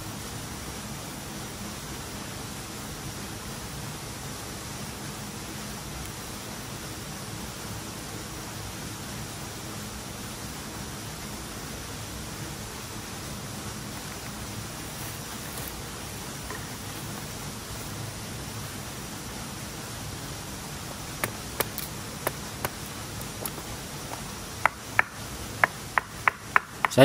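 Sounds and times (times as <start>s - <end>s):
river flowing: 0.0s - 27.0s.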